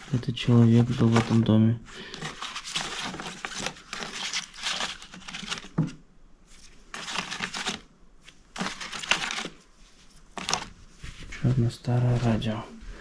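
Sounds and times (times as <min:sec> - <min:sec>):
photo prints rustling and sliding: 0:00.0 - 0:12.5.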